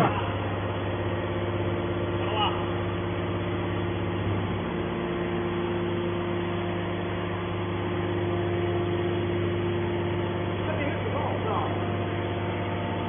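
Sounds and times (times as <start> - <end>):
hydraulic unit humming: 0.0 - 13.0
hydraulic whine: 0.0 - 13.0.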